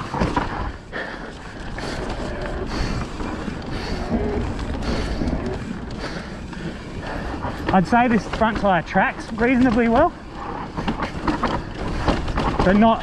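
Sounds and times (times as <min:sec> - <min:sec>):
bike rattling: 0:00.0 - 0:13.0
bike tyres rolling over dirt: 0:00.0 - 0:13.0.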